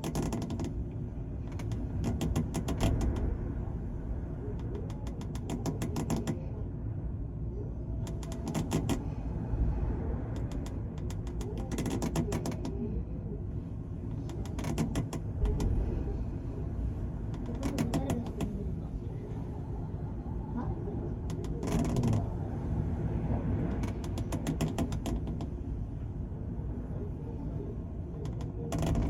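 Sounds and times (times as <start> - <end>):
ship engine rumble: 0.0 - 29.0.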